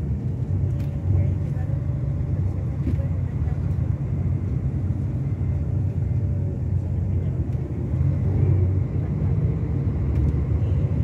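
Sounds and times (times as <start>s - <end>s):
diesel engine low rumble: 0.0s - 11.0s.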